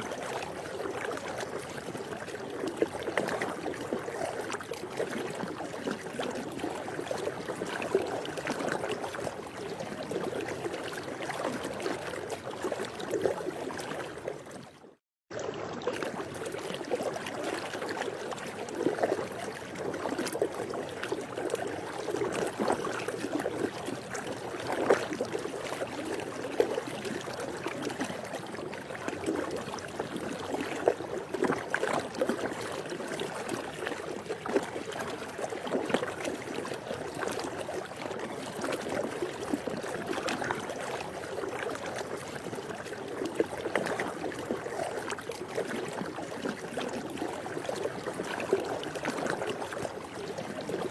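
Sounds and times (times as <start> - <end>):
pool water lapping and splashing: 0.0 - 50.9.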